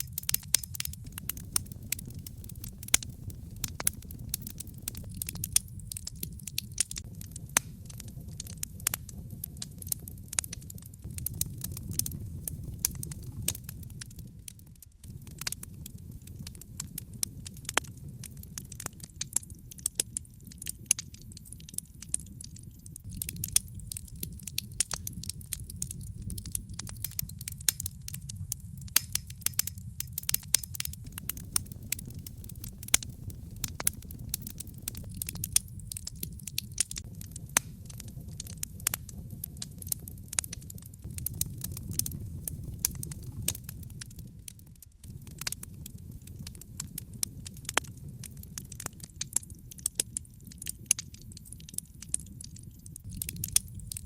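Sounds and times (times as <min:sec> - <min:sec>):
logs crackling and popping: 0:00.0 - 0:54.0
rumble of flames: 0:00.0 - 0:54.0.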